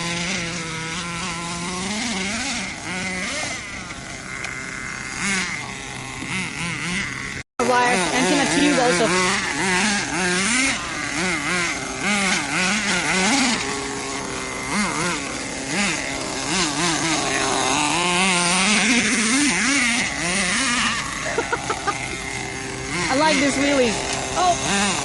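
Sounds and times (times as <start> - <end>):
engine sputters: 0.0 - 25.0
small engine revving: 0.0 - 25.0.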